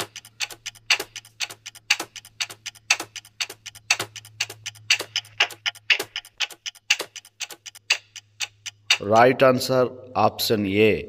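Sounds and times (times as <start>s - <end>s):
clock ticking: 0.0s - 9.7s.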